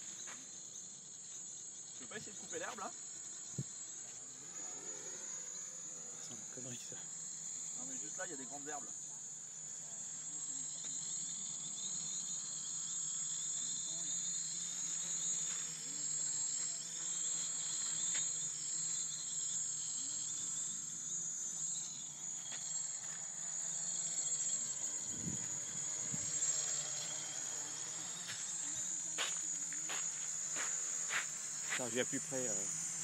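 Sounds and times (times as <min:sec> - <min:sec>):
drone propellers buzzing: 0:00.0 - 0:09.0, 0:09.6 - 0:33.0.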